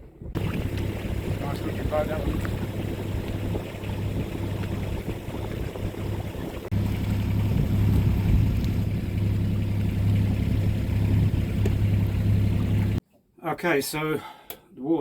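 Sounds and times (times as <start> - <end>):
boat engine humming: 0.0 - 13.0
water noise: 0.0 - 13.0
wind: 0.0 - 15.0.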